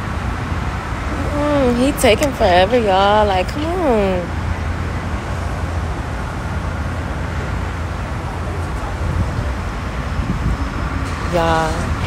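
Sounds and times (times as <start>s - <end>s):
traffic and engine hum: 0.0s - 12.0s.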